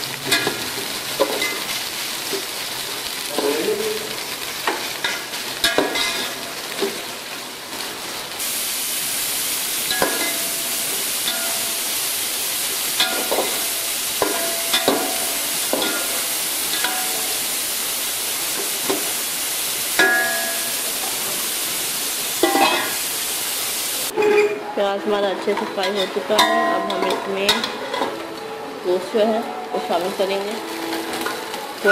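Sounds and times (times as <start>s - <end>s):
onions sizzling in hot fat: 0.0s - 31.9s.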